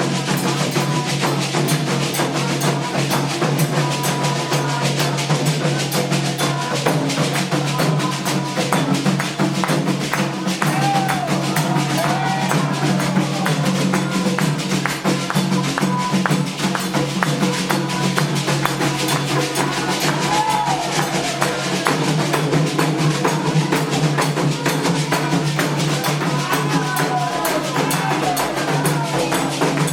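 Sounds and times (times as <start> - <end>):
hand drums: 0.0 - 29.9
rattling percussion: 0.0 - 29.9.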